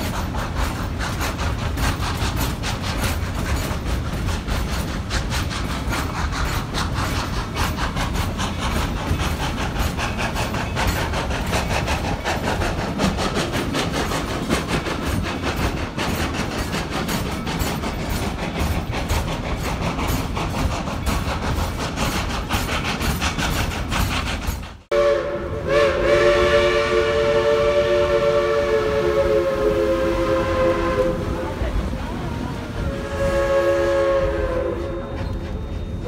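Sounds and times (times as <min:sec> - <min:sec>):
train low rumble: 0:00.0 - 0:36.0
train wheels clattering on track: 0:00.0 - 0:36.0.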